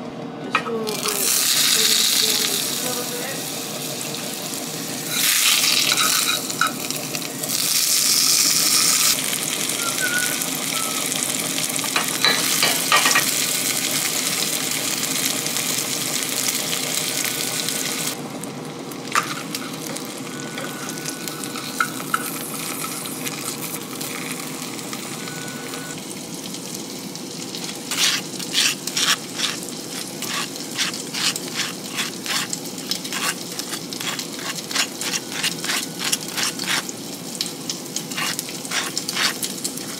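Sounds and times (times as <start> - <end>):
food sizzling in a pan: 0.9 - 39.9.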